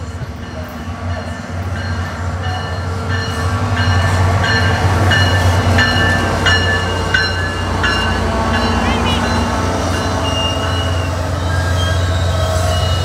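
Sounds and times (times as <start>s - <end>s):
train rumbling: 0.0s - 13.0s
bell ringing: 0.4s - 12.0s.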